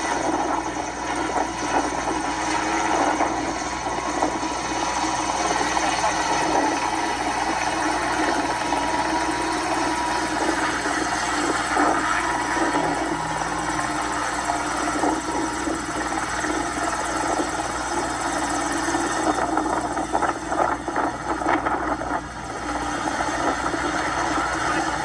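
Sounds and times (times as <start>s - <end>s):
helicopter engine and rotor: 0.0s - 25.0s.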